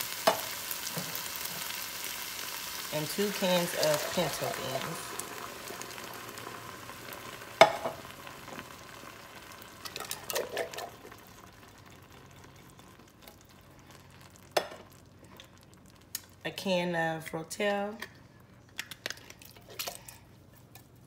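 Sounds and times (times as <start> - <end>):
beans and onion sizzling: 0.0 - 21.0.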